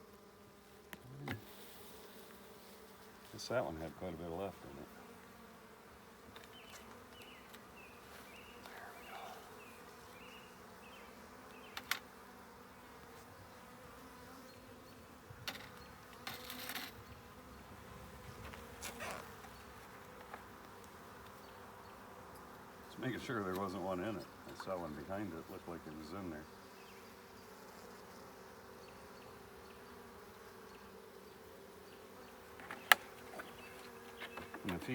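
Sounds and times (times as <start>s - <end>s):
honeybees buzzing: 0.0s - 34.9s.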